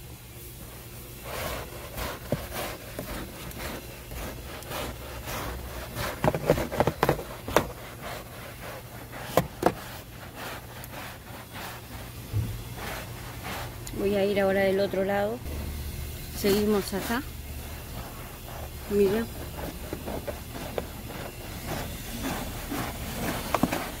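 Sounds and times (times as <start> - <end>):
brush scrubbing wet carpet: 0.6 - 15.4, 16.2 - 24.0.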